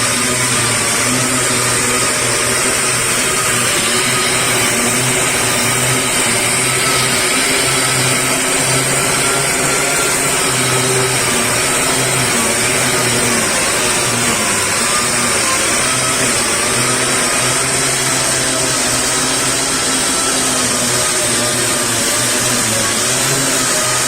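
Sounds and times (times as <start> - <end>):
power sander running: 0.0 - 24.0.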